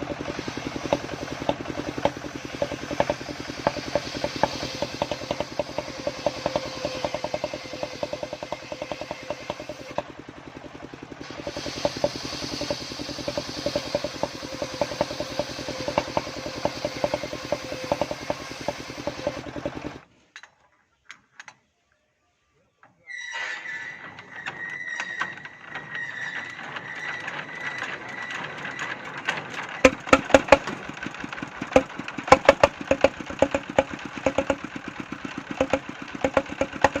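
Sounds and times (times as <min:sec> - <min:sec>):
engine driving circular saw: 0:00.0 - 0:20.1, 0:23.4 - 0:37.0.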